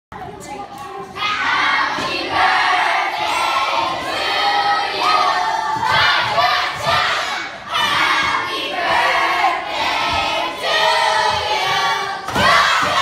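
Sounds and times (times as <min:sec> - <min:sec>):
children singing in unison: 0:01.2 - 0:13.0.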